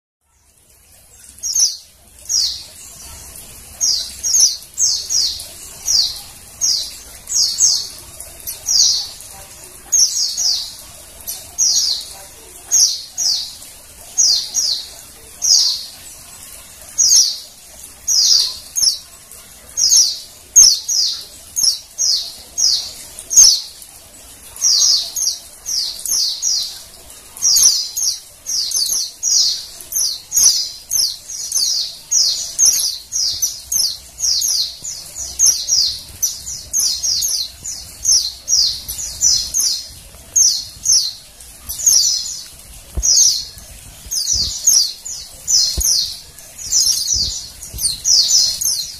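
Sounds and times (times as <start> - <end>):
bird chirping calls: 0.8 - 48.9.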